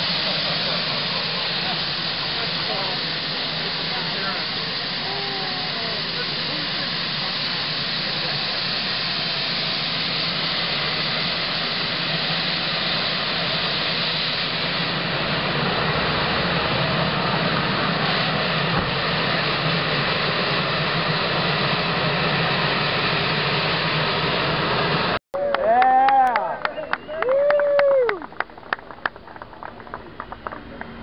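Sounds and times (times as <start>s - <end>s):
gas turbine engine running: 0.0s - 25.2s.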